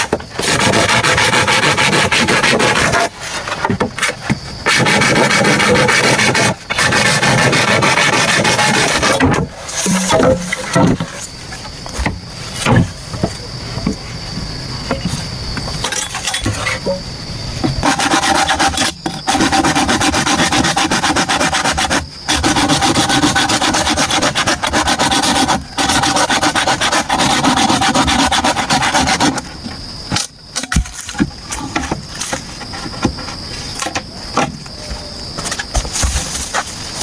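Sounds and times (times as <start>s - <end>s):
hand tool rasping through bamboo: 0.0s - 12.9s, 17.7s - 34.5s.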